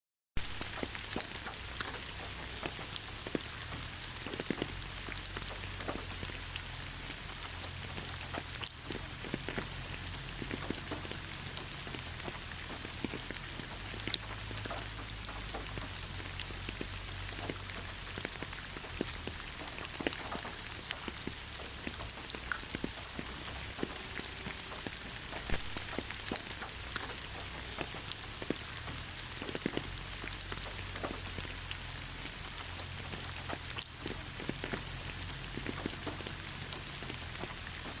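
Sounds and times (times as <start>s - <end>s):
rain pattering: 0.4s - 38.0s.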